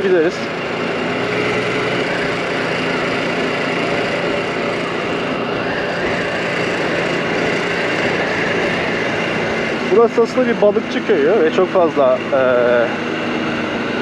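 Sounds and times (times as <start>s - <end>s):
scooter engine cruising: 0.0s - 14.0s
wind and road noise: 0.0s - 14.0s.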